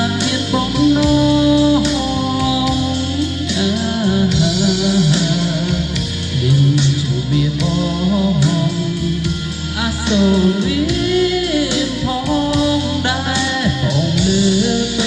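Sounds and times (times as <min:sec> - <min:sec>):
wavering melody over steady beat: 0:00.0 - 0:15.0.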